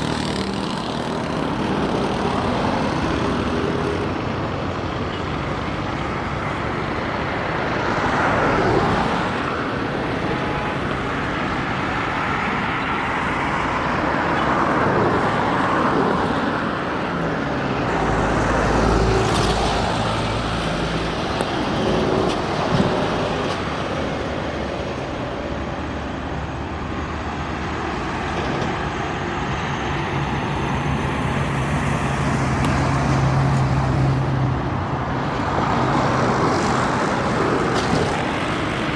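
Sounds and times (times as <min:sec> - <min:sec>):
diesel truck engine drone: 0:00.0 - 0:38.9
highway traffic passing: 0:00.0 - 0:38.9.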